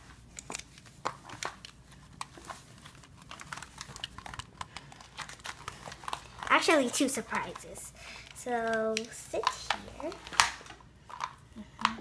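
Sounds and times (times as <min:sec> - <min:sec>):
plastic dolls clicking and rustling: 0:00.0 - 0:12.0.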